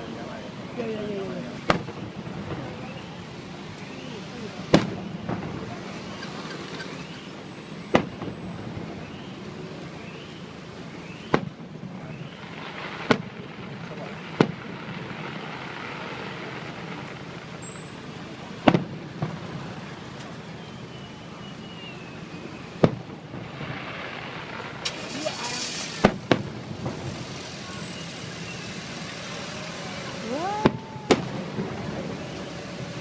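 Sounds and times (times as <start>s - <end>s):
background noise: 0.0s - 33.0s
fireworks bangs: 0.0s - 33.0s
firework whistles: 1.2s - 33.0s.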